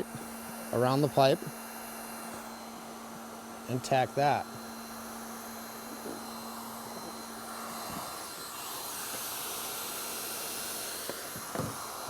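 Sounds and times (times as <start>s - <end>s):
hot-air welding gun blowing: 0.0s - 12.0s.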